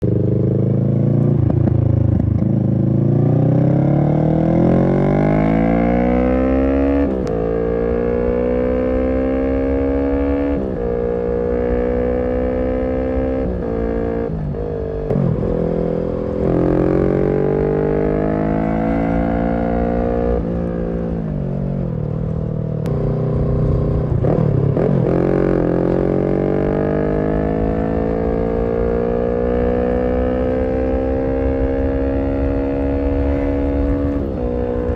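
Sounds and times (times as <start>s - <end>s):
motorcycle engine revving through gears: 0.0s - 34.9s.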